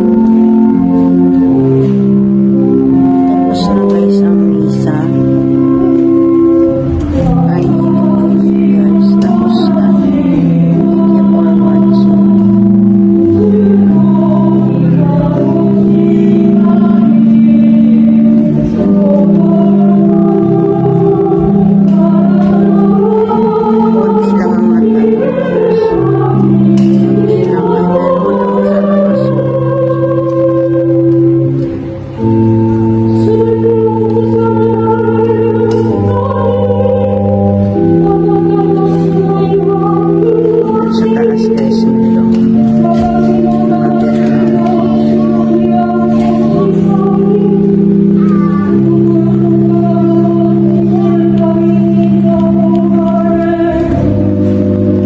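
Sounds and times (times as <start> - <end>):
congregation singing a hymn: 0.0 - 55.0
organ chords: 0.0 - 55.0.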